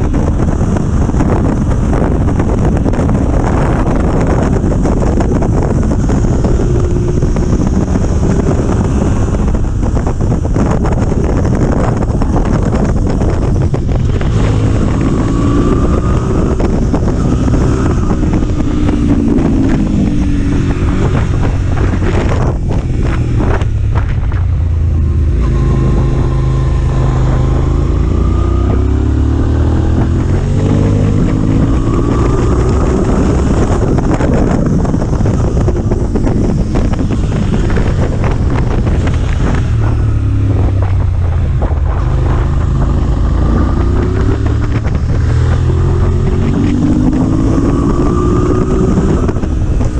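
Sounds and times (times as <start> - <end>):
motorcycle engine revving: 0.0 - 49.9
wind noise on microphone: 0.0 - 49.9.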